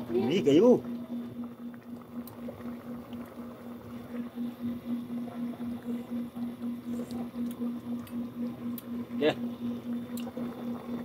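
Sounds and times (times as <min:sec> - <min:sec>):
pulsing low hum: 0:00.0 - 0:11.0.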